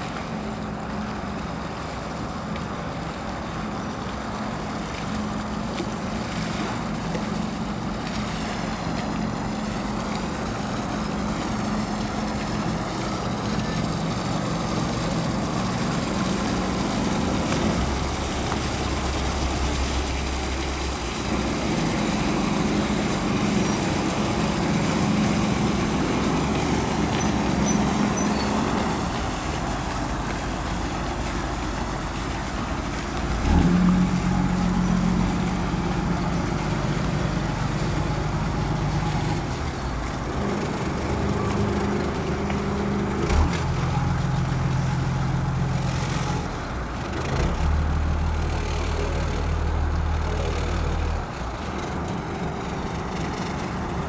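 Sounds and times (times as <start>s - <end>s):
boat engine running at low speed: 0.0s - 54.0s.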